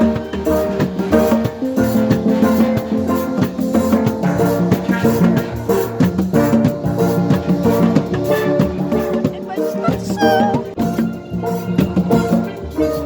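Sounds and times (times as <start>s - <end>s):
drums and percussion: 0.0s - 13.0s
steel pan band playing: 0.0s - 13.0s.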